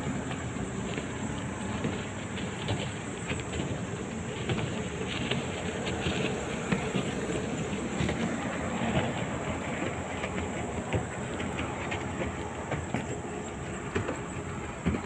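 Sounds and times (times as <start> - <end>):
insects droning: 0.0 - 15.0
low outdoor rumble: 0.0 - 15.0.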